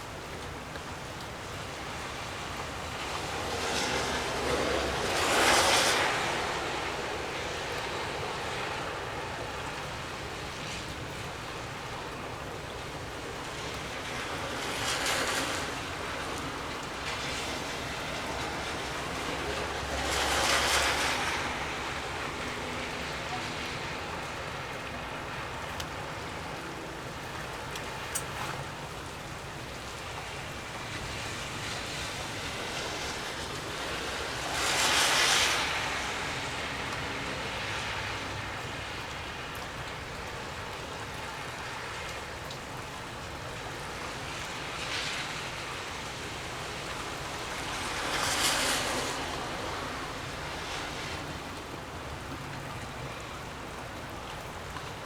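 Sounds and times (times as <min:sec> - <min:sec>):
rain-like hiss: 0:00.0 - 0:55.0.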